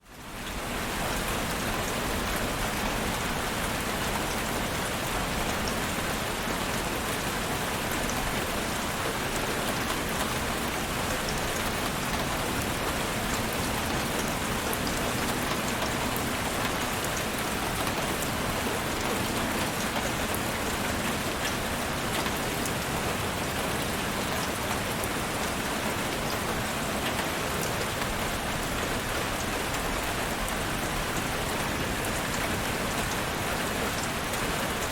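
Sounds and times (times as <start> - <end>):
steady rain pattering: 0.0 - 34.9.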